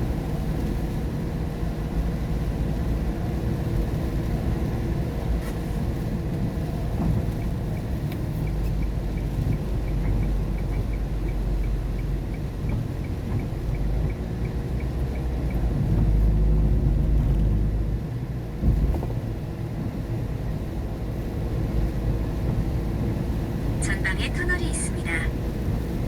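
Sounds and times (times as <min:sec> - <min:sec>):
car road noise inside cabin: 0:00.0 - 0:26.0
tyres on wet road: 0:00.0 - 0:26.0.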